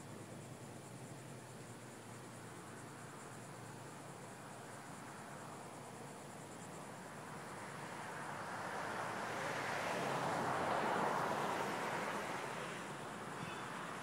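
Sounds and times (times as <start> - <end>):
vehicle tyre and road noise: 0.0 - 14.0.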